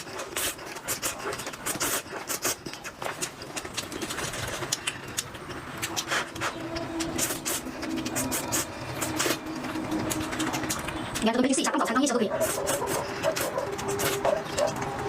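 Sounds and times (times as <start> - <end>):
chewing mouth noises: 0.0 - 15.0.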